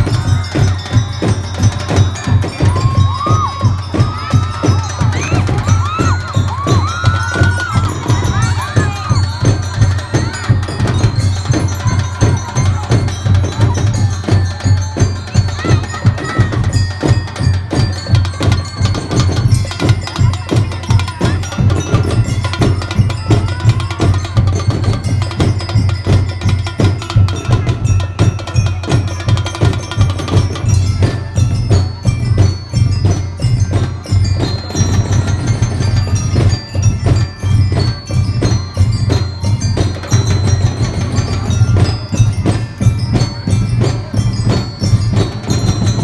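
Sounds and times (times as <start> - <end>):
mallet bell melody: 0.0 - 46.0
marching drums: 0.0 - 46.0.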